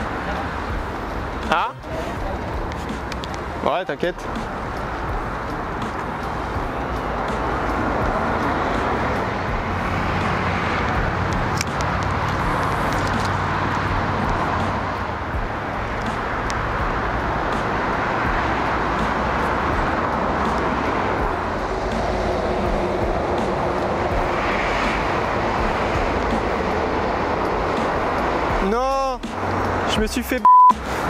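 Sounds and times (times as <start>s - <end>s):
city traffic roar: 0.0s - 31.0s.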